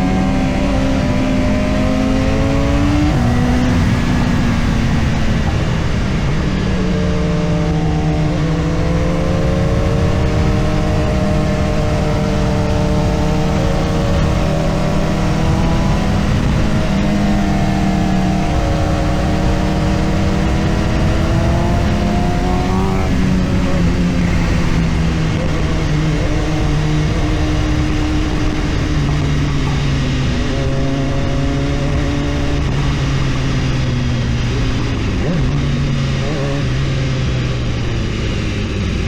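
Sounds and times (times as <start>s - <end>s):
motorcycle engine under load: 0.0s - 39.0s
wind and road noise: 0.0s - 39.0s.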